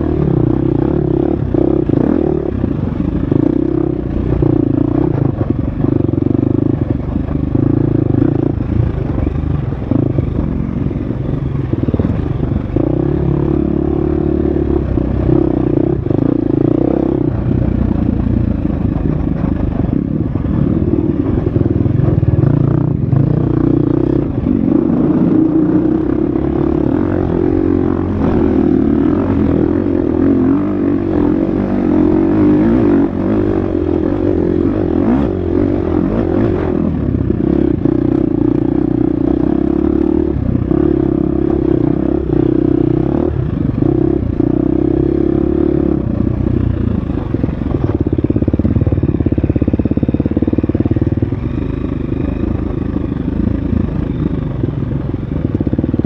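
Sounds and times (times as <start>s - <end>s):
dirt bike engine revving: 0.0s - 54.6s.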